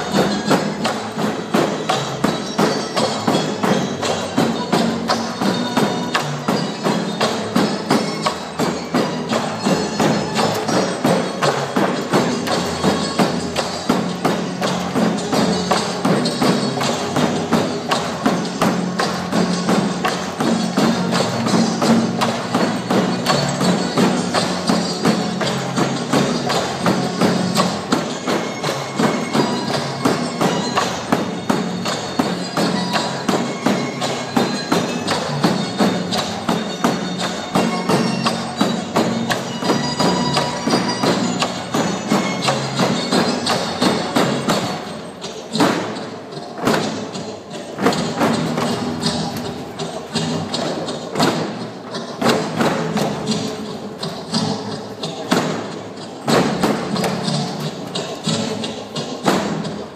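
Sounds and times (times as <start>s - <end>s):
backing music: 0.0s - 59.9s
bamboo poles clapping and knocking: 0.0s - 59.9s.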